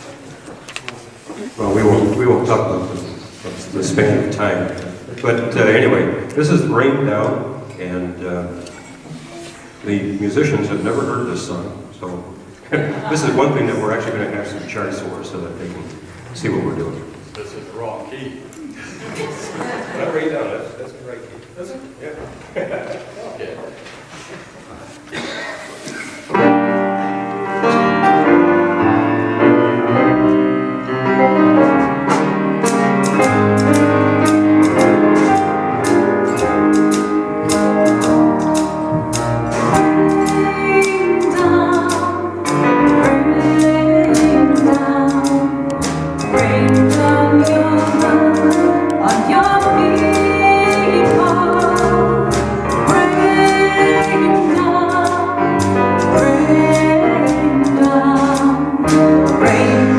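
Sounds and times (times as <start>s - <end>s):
piano trio playing slow song: 1.4s - 17.2s, 25.1s - 59.9s.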